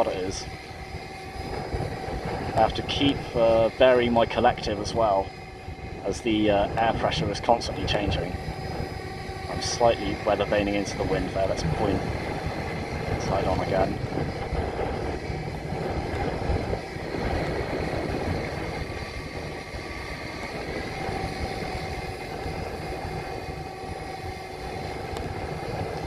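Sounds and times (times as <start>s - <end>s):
rc helicopter rotor whine: 0.0s - 26.0s
wind buffeting microphone: 0.0s - 26.0s.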